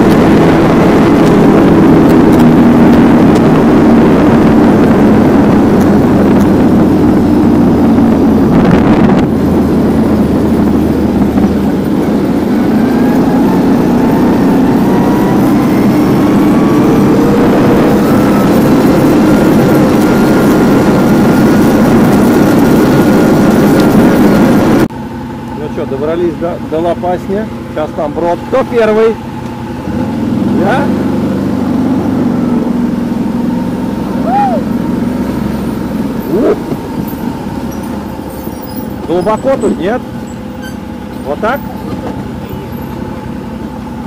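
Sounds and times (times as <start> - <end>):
quad bike engine running: 0.0 - 44.0.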